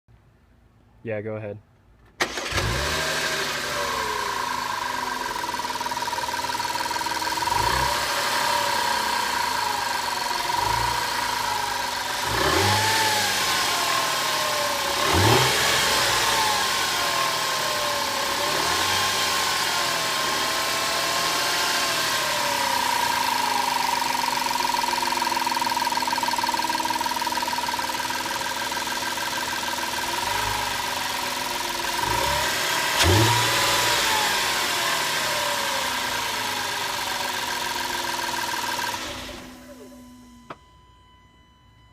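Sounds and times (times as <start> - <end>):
car engine revving: 2.2 - 40.0.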